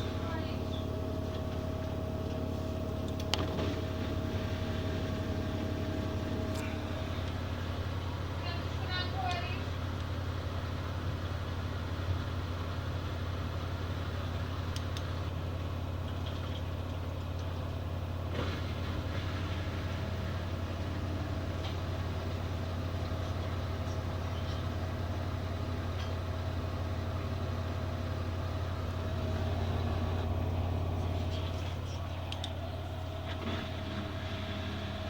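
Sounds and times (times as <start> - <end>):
washing machine spin hum: 0.0 - 35.0.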